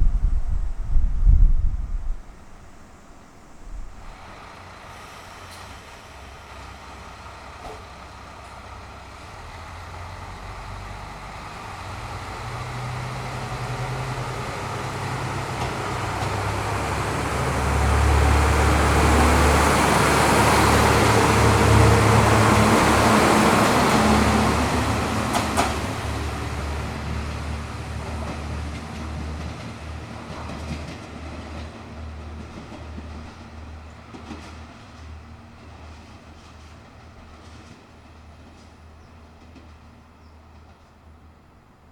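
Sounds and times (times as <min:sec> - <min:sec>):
diesel train engine pulling away: 0:00.0 - 0:41.9.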